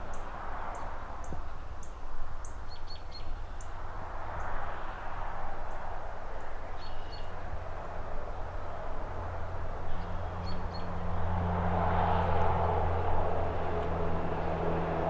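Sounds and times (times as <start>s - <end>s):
distant traffic rumble: 0.0s - 15.0s
passing cars: 0.0s - 15.0s
trees rustling: 0.0s - 15.0s.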